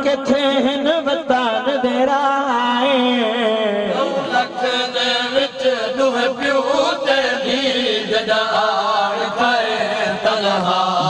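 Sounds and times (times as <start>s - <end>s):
men chanting in unison: 0.4s - 11.0s.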